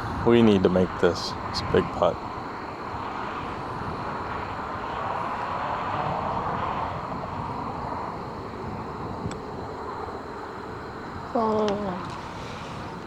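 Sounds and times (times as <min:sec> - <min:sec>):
aircraft drone overhead: 0:00.0 - 0:13.0.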